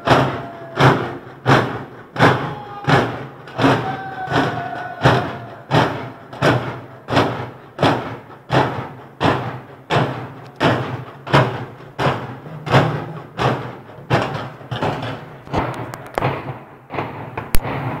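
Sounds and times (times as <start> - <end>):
heavy rhythmic knocking thuds: 0.0 - 18.0.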